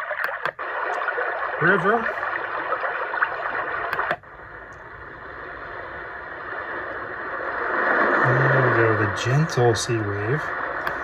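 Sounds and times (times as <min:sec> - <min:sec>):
rushing water noise from speaker: 0:00.0 - 0:11.0
sea wave sounds from speaker: 0:00.0 - 0:11.0.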